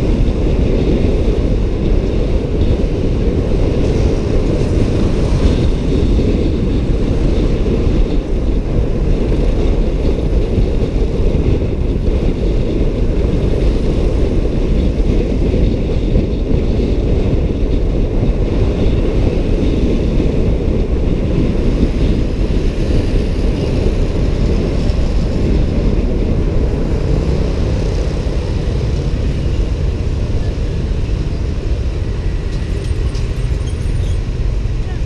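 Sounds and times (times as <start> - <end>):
motorbike engine rumble: 0.0 - 35.0
wind buffeting microphone: 0.0 - 35.0.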